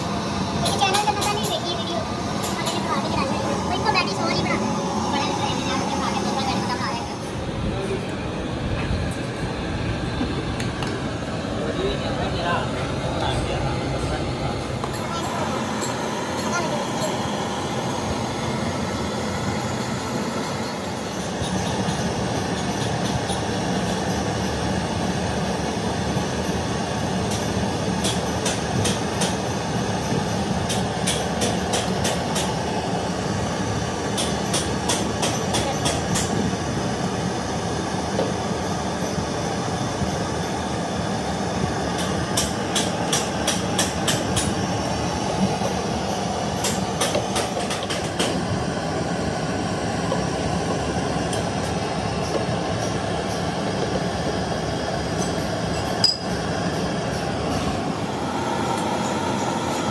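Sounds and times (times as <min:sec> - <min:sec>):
blowtorch flame rushing: 0:00.0 - 0:59.9.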